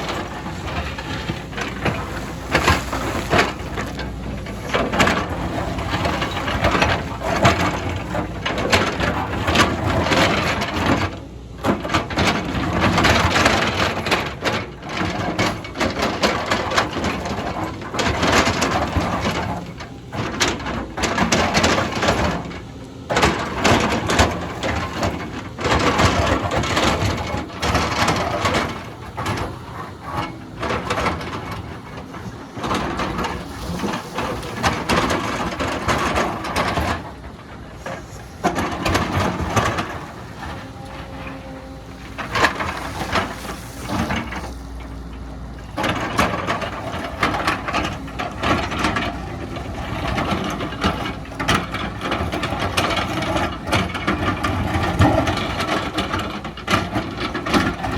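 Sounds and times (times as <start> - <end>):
excavator bucket scraping soil and rock: 0.0 - 57.9
excavator engine: 0.0 - 57.9.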